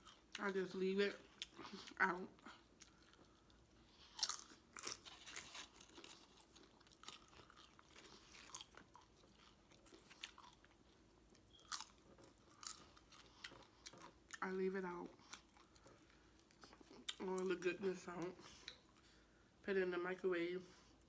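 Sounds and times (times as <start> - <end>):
chewing food: 0.0 - 19.2.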